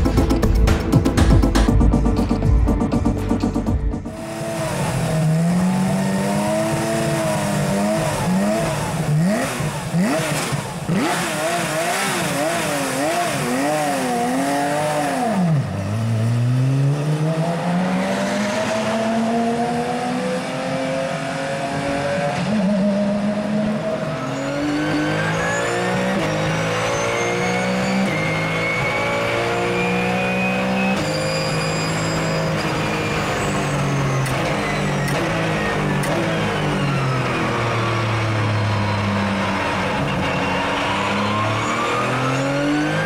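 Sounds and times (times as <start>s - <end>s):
racing engine revving: 0.0s - 43.0s.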